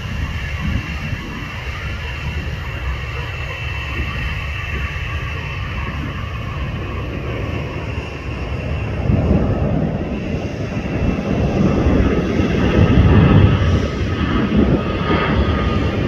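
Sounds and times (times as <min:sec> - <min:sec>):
jet engines deep rumble: 0:00.0 - 0:16.0.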